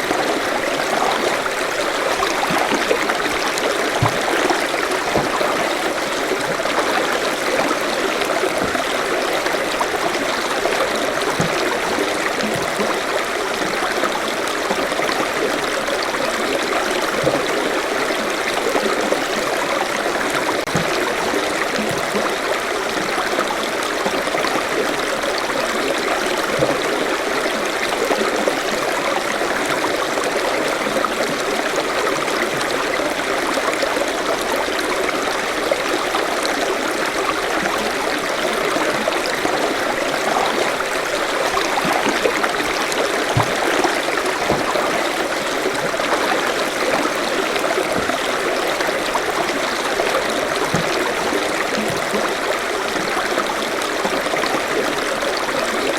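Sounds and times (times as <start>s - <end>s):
stream flowing over rocks: 0.0s - 55.9s.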